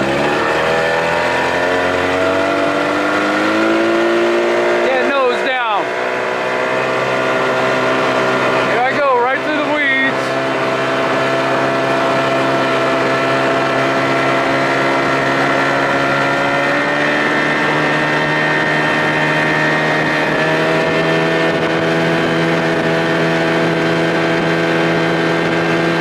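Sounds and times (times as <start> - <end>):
outboard motor running: 0.0 - 26.0
water noise: 0.0 - 26.0
wind: 0.0 - 26.0.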